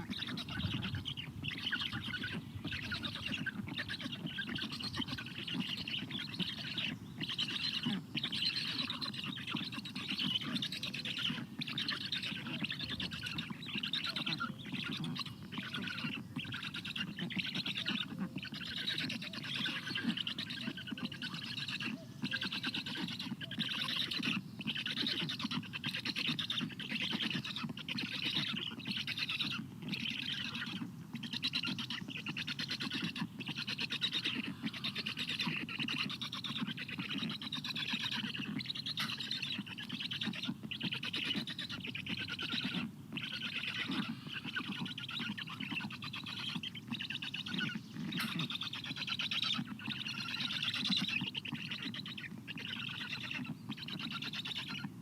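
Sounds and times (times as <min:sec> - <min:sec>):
nestlings begging calls: 0:00.0 - 0:55.0.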